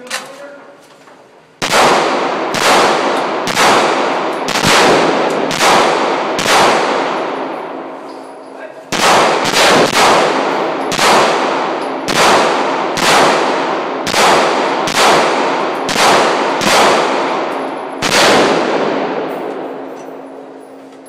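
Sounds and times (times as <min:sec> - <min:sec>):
handgun shots echoing: 0:01.6 - 0:08.2, 0:08.9 - 0:20.3.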